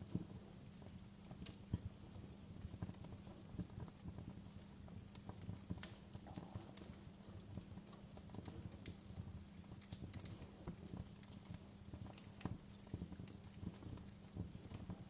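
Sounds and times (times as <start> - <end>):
fire crackling: 0.0 - 15.0
low rumble of flames: 0.0 - 15.0
sharp pops and snaps: 0.9 - 15.0.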